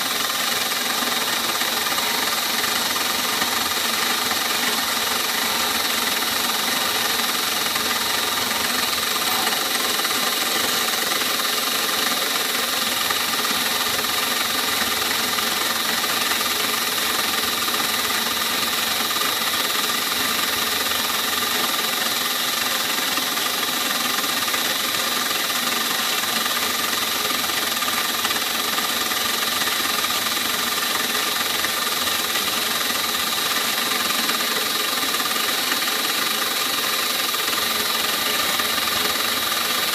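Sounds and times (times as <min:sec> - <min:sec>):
milling machine cutting plastic: 0:00.0 - 0:39.9.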